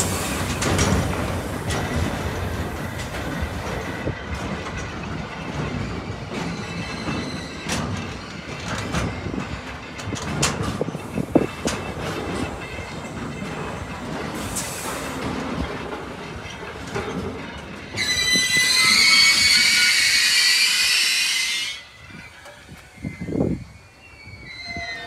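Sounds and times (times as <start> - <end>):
wheels clicking over rail joints: 0.0 - 20.9, 21.9 - 23.9
train rumbling past: 0.0 - 25.0.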